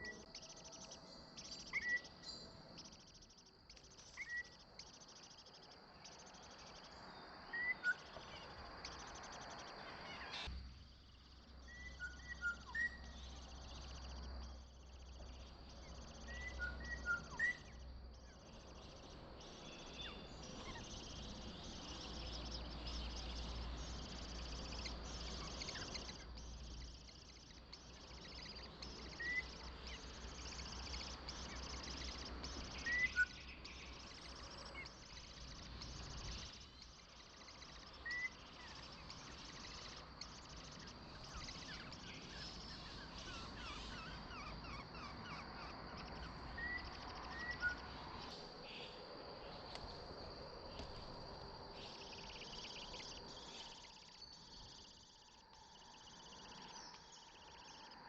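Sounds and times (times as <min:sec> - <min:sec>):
rising bird chirps: 0:00.0 - 0:49.6, 0:51.8 - 0:58.0
pulsing insect drone: 0:00.0 - 0:58.0.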